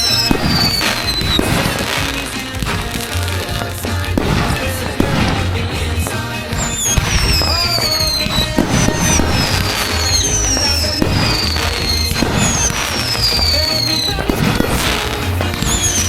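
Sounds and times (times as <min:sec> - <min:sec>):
fireworks cracking: 0:00.0 - 0:16.0
fireworks whistling: 0:00.0 - 0:16.0
music with steady beat: 0:00.0 - 0:16.0.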